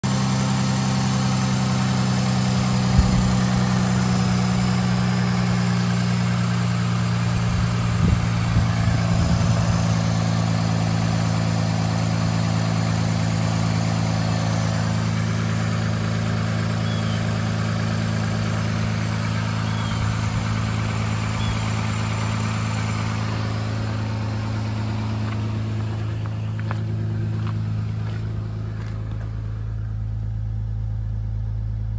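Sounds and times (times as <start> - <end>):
car engine idling: 0.0 - 31.9.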